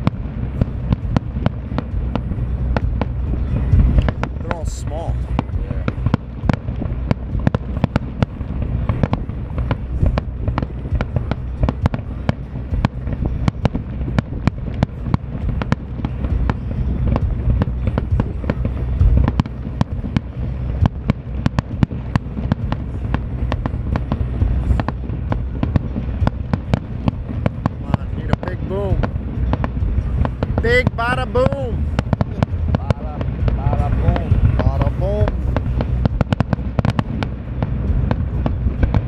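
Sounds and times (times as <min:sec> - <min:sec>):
deep rumble of shell bursts: 0:00.0 - 0:39.0
fireworks bangs and crackles: 0:00.0 - 0:39.0.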